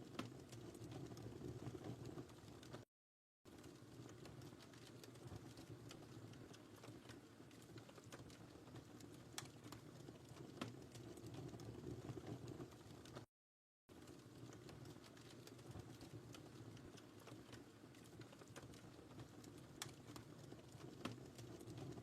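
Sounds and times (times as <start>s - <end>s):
wood fire crackling: 0.0s - 2.8s, 3.5s - 13.3s, 13.9s - 22.0s.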